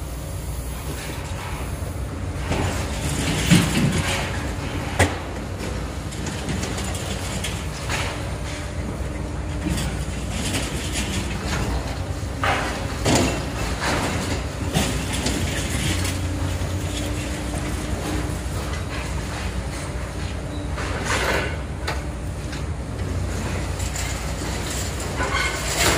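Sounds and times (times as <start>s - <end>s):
excavator engine and hydraulic drone: 0.0s - 25.9s.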